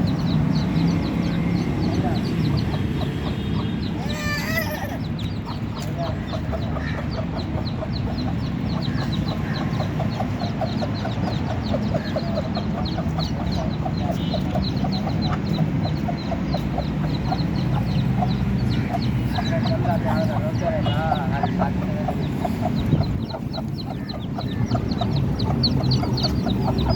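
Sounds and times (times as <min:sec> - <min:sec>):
chicks peeping: 0:00.0 - 0:26.9
hen clucking: 0:00.0 - 0:26.9.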